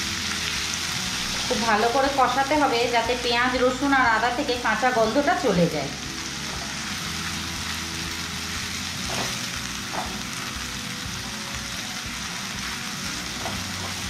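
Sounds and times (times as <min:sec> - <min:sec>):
paste sizzling in hot oil: 0:00.0 - 0:04.0, 0:04.7 - 0:14.0.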